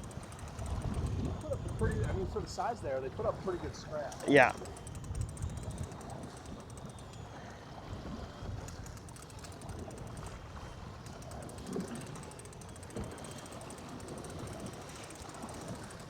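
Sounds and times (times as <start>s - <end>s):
fishing reel clicking: 0.0s - 16.0s
wind and water rumble: 0.0s - 16.0s.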